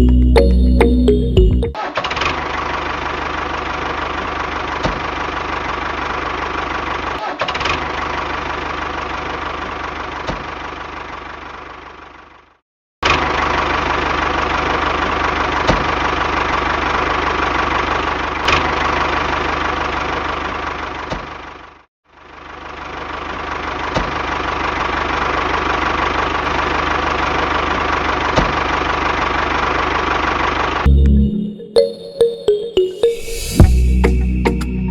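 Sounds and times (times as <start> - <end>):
small engine idling: 1.8 - 30.9.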